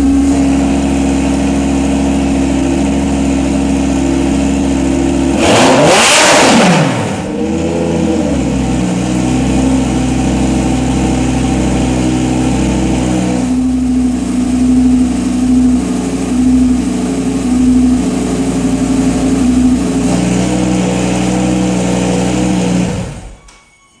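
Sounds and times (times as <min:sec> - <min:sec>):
sports car engine revving and idling: 0:00.0 - 0:23.3.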